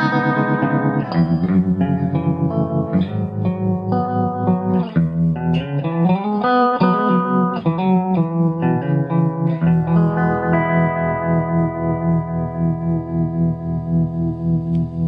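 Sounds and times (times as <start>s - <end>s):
guitar chords with vibrato: 0.0s - 15.0s.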